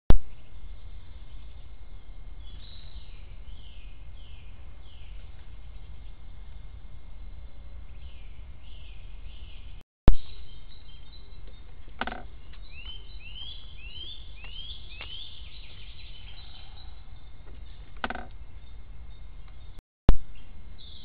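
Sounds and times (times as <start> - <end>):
birds chirping: 0.1 - 21.0
low outdoor rumble: 0.1 - 21.0.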